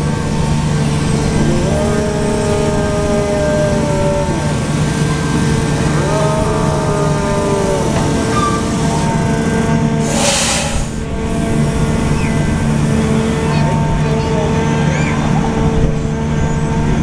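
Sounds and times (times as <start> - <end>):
diesel engine and hydraulics: 0.0 - 17.0
hydraulic whine: 0.0 - 17.0.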